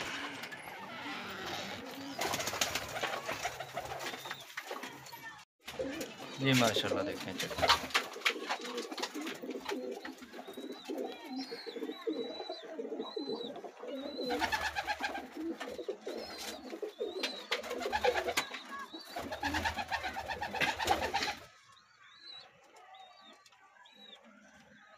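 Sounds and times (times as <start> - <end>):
pigeons cooing: 0.0 - 4.4, 5.7 - 21.6.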